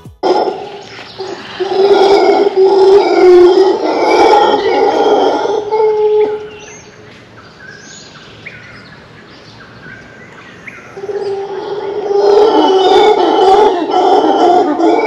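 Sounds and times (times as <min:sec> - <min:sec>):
birds chirping: 0:00.0 - 0:15.0
howler monkeys howling: 0:00.2 - 0:07.1, 0:09.7 - 0:15.0.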